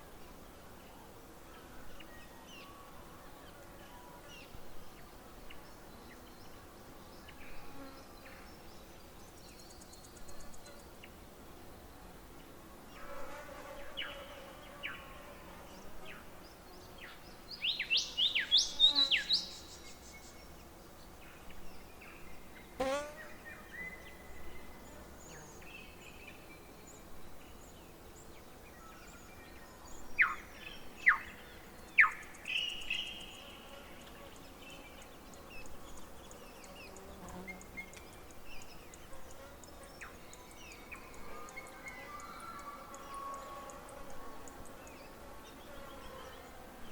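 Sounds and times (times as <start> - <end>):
insects humming: 4.4 - 46.9.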